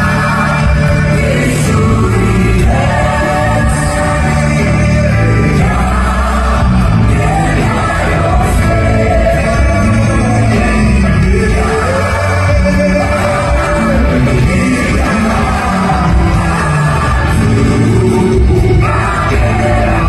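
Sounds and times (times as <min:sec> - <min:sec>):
band with heavy bass: 0:00.0 - 0:20.0
group of singers: 0:00.0 - 0:20.0.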